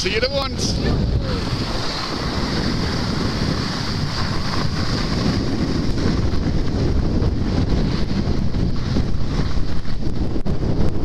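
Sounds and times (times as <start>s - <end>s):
skis sliding on snow: 0.0s - 11.0s
wind buffeting microphone: 0.0s - 11.0s.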